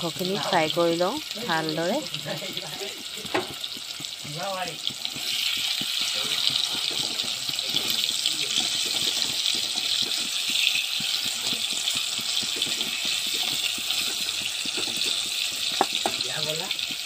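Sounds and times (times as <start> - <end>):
chicken sizzling in hot oil: 0.0 - 17.0
spatula scraping pan: 2.0 - 17.0.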